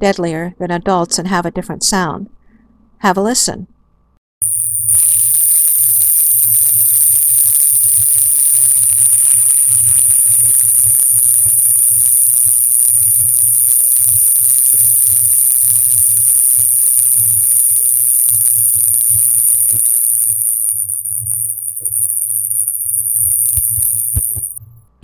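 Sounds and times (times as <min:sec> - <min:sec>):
rattlesnake rattling buzz: 0:04.4 - 0:24.6.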